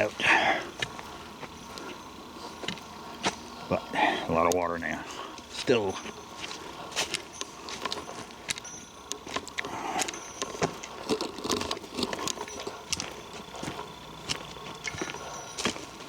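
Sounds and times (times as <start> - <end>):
footsteps crunching dry leaves: 0.0 - 16.0.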